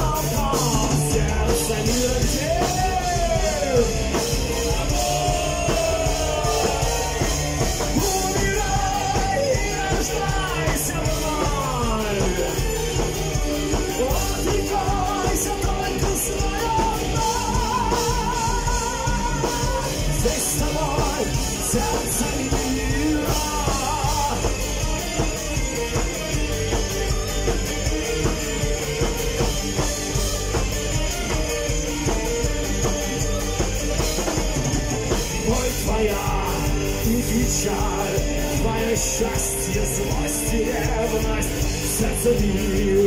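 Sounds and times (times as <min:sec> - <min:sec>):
bass guitar: 0:00.0 - 0:43.0
drum kit: 0:00.0 - 0:43.0
electric guitars: 0:00.0 - 0:43.0.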